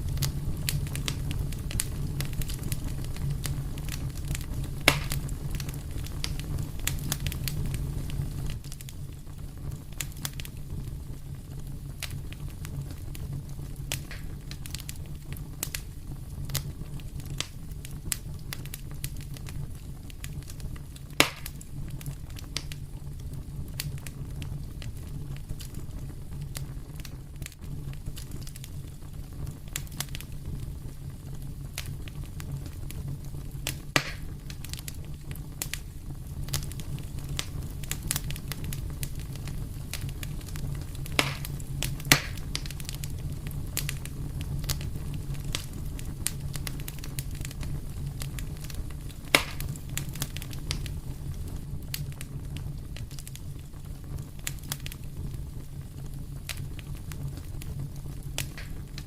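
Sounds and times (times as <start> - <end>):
loud fire pops: 0.0 - 59.0
wood fire crackling: 0.0 - 59.0.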